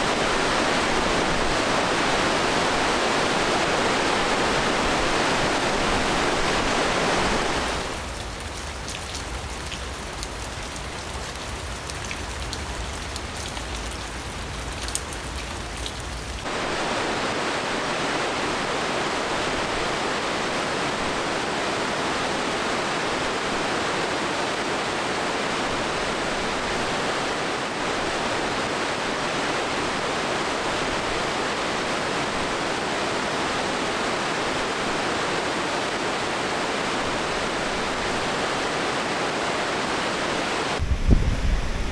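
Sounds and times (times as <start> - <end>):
rushing meltwater: 0.0 - 40.8.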